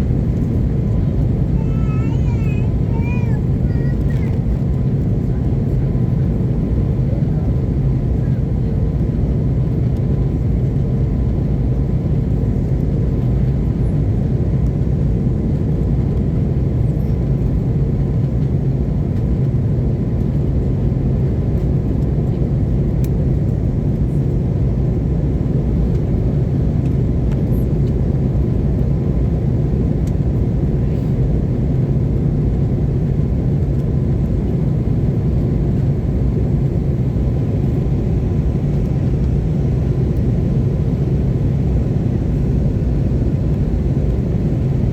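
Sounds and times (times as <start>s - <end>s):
airliner cabin engine drone: 0.0s - 44.9s.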